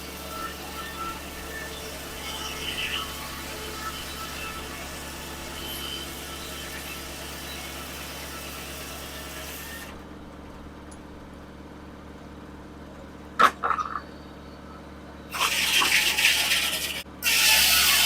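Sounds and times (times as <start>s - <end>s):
sawmill engine running: 0.0s - 18.0s.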